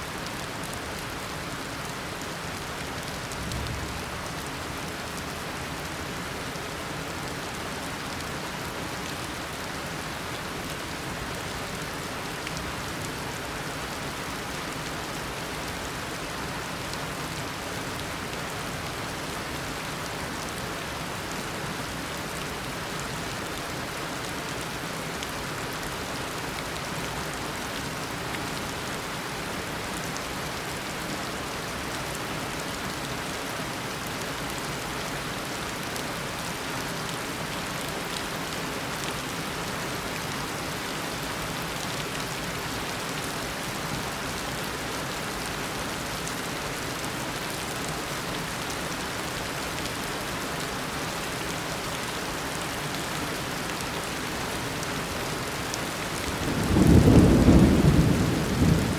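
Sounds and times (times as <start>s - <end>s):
heavy rain: 0.0s - 58.9s.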